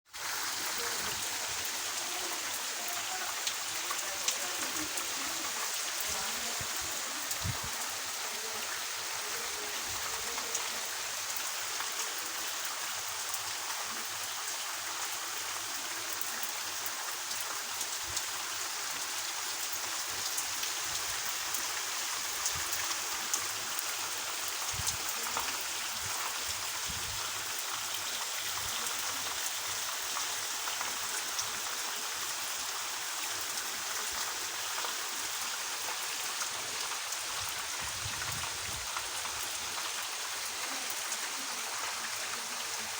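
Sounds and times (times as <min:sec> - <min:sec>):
steady rain falling: 0:00.1 - 0:42.9.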